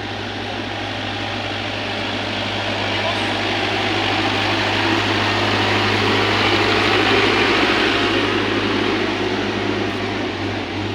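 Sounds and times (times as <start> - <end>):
truck engine running: 0.0 - 10.9.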